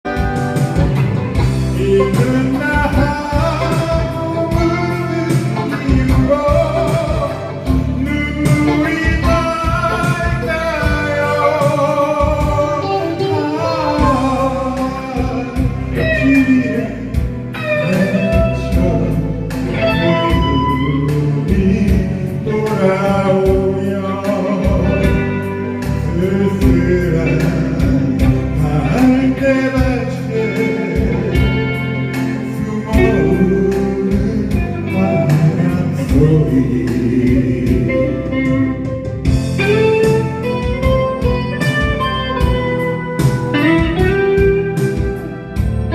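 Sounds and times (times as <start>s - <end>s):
guitar accompaniment: 0.0s - 45.9s
man singing: 1.3s - 45.9s.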